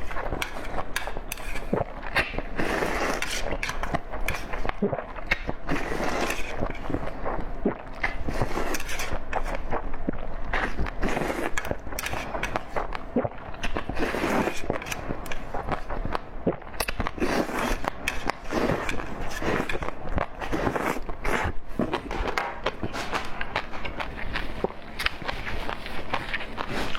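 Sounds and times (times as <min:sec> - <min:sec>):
person chewing with mouth open: 0:00.0 - 0:26.9.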